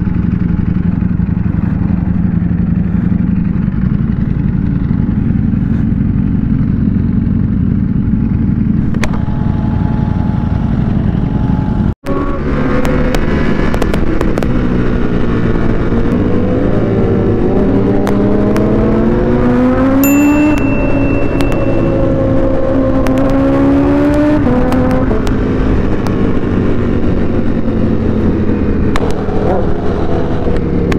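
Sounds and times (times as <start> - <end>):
motorcycle engines accelerating: 0.0 - 30.9.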